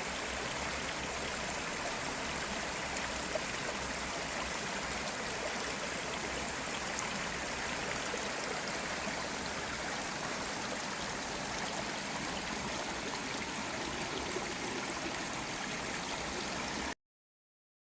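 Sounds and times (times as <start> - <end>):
stream water running over rocks: 0.0 - 17.0.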